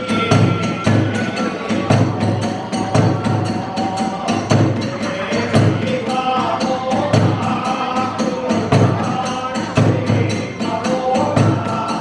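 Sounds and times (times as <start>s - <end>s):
large drum beating: 0.0s - 12.0s.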